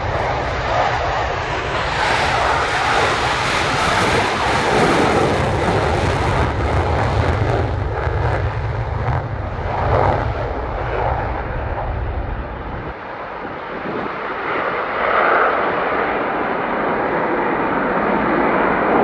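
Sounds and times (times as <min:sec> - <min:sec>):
deep jet rumble: 0:00.0 - 0:19.0
jet engine roaring at takeoff: 0:00.0 - 0:19.0.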